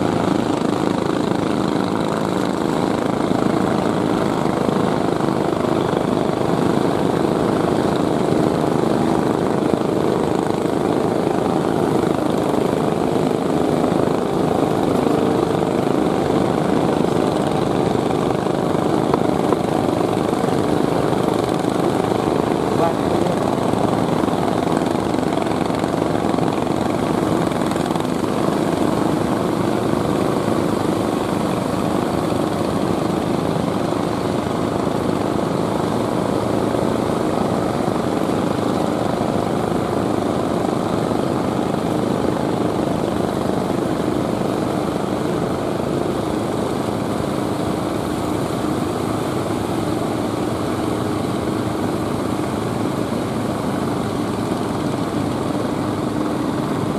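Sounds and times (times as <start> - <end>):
boat engines droning: 0.0 - 56.9.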